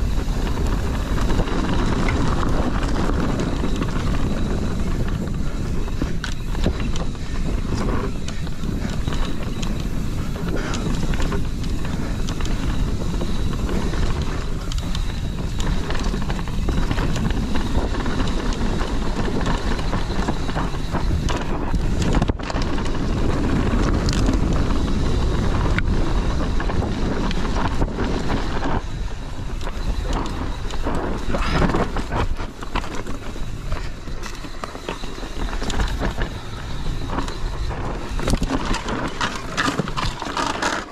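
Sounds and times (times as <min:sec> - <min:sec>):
bike knocks and rattles: 0:00.0 - 0:40.9
tyres rumbling over dirt: 0:00.0 - 0:40.9
wind on microphone: 0:00.0 - 0:40.9.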